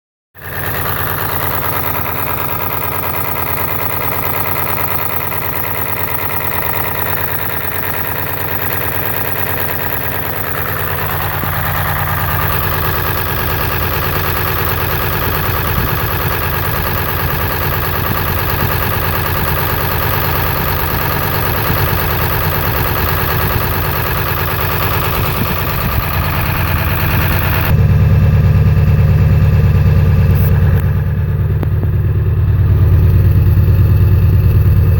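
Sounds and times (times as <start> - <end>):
diesel engine idling roughly: 0.4 - 34.9.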